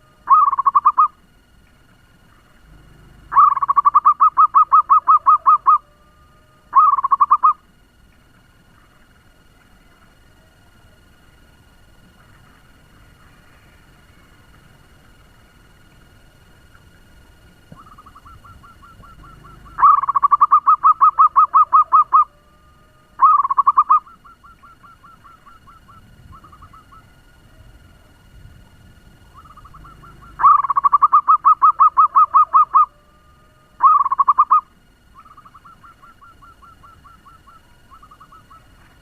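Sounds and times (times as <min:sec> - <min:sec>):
dove cooing trill: 0:00.0 - 0:39.0.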